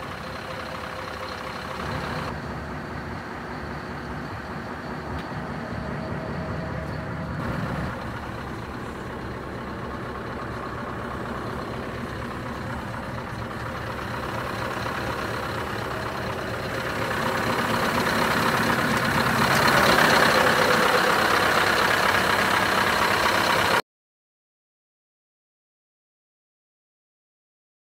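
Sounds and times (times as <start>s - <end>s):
diesel truck engine idling: 0.0s - 23.8s.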